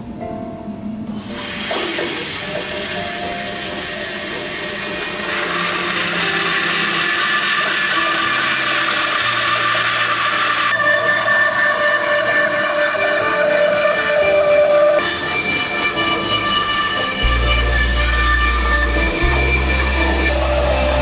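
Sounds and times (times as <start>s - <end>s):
bandsaw cutting wood: 1.2s - 21.0s.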